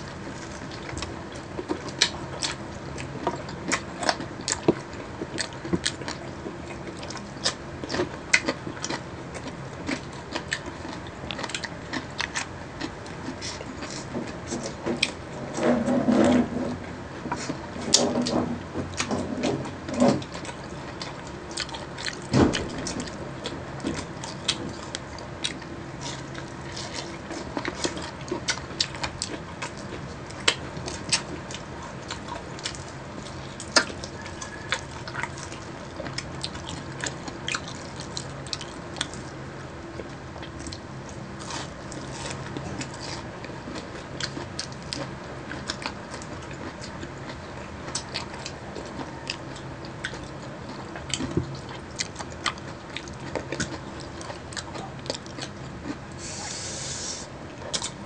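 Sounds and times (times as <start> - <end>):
chewing with smacking mouth sounds: 0.0 - 15.6, 16.7 - 56.7, 57.5 - 58.0.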